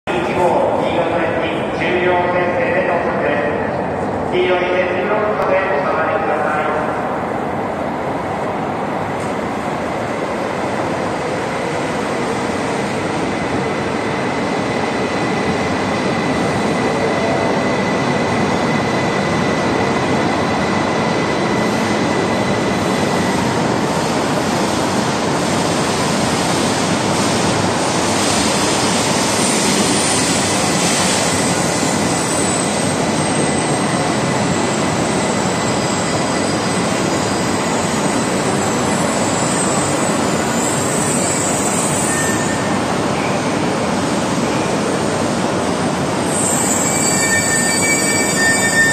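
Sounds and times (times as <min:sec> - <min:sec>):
train running noise: 0:00.1 - 0:48.9.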